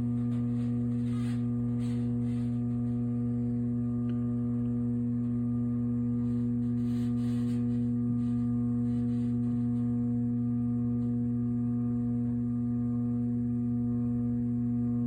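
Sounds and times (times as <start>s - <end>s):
furnace blower motor humming: 0.0s - 15.0s.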